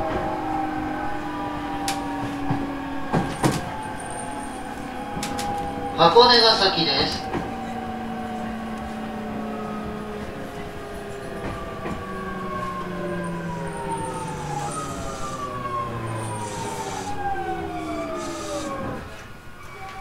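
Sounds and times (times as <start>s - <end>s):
train motors whining downward: 0.0s - 20.0s.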